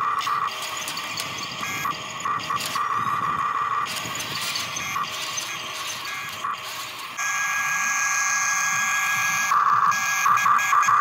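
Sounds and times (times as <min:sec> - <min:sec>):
toy excavator motors whining: 0:00.0 - 0:11.0.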